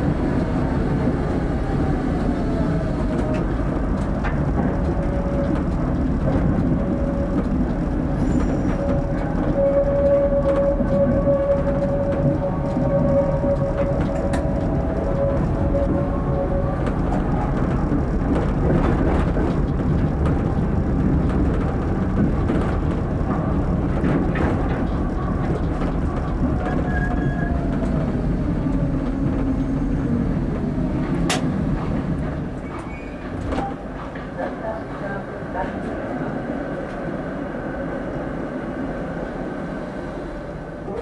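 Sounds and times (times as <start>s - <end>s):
tram wheels rumbling on rails: 0.0s - 41.0s
tram whine: 0.0s - 41.0s.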